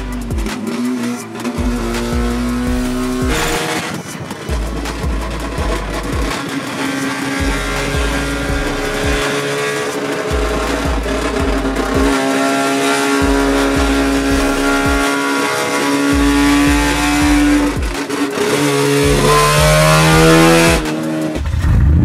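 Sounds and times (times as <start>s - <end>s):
rotary engine revving hard: 0.0s - 22.0s.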